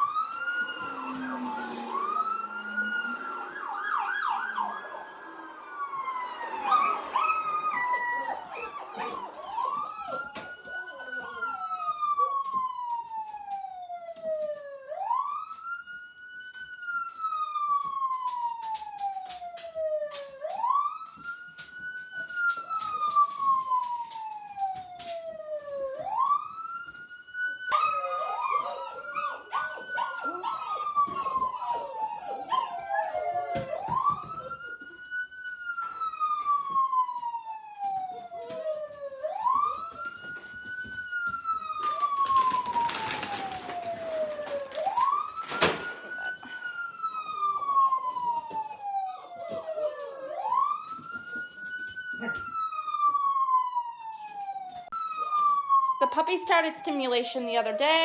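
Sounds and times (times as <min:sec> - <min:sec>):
busier siren layer: 0:00.0 - 0:58.0
police siren wailing: 0:00.0 - 0:58.0.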